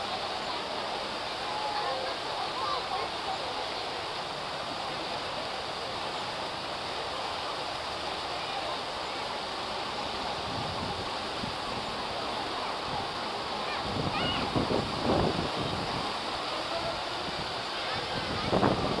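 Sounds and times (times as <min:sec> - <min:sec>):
fountain water splashing into pool: 0:00.0 - 0:19.0.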